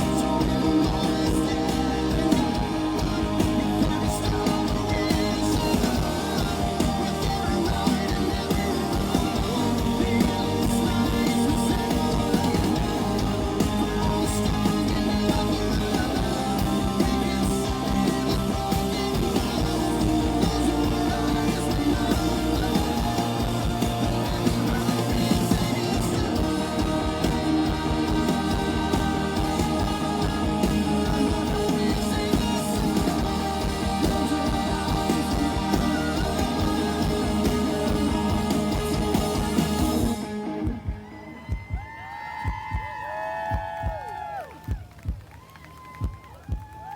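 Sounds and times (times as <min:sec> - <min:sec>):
electric guitar: 0:00.0 - 0:41.7
rock band instrumental: 0:00.0 - 0:41.7.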